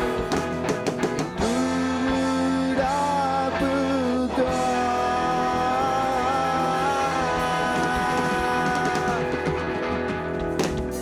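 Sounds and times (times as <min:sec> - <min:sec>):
guitar bending held notes: 0:00.0 - 0:11.0
live rock band playing: 0:00.0 - 0:11.0
sharp guitar strums: 0:00.0 - 0:11.0.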